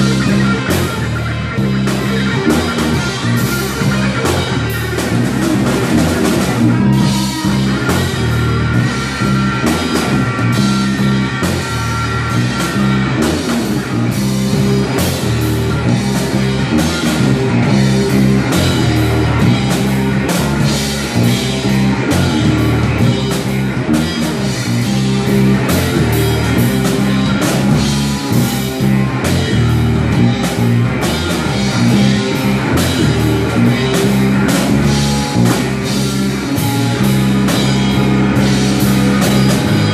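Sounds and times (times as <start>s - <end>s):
distorted electric guitars: 0.0s - 39.9s
driving drum kit: 0.0s - 39.9s.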